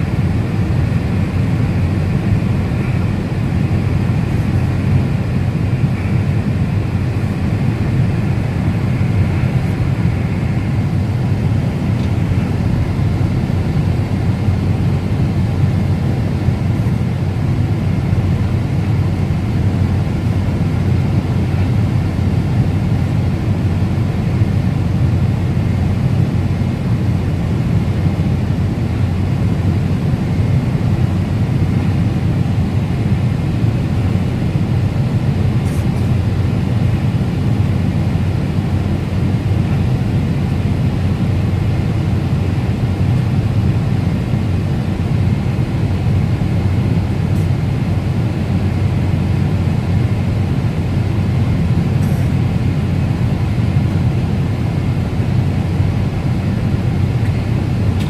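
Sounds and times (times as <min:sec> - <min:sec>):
airplane cabin noise: 0:00.0 - 0:58.0.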